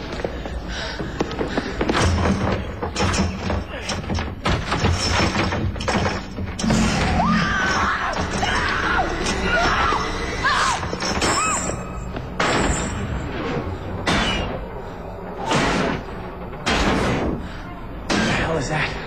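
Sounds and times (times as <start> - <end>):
tense horror music score: 0.0 - 19.0.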